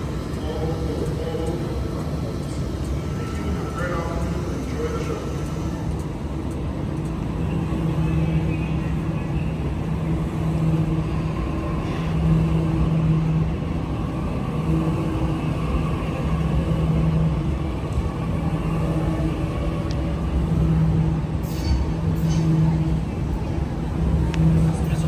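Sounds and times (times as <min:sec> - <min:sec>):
carriages rolling past: 0:00.0 - 0:25.0
train electric hum: 0:00.0 - 0:25.0.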